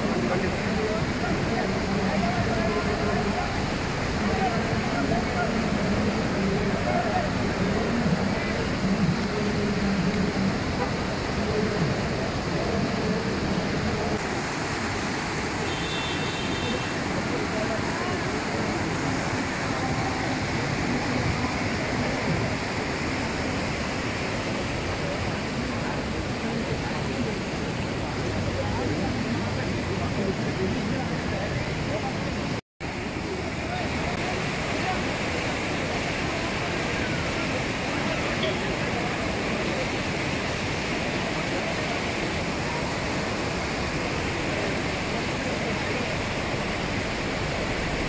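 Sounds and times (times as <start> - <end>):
river rapids rushing: 0.0 - 48.0.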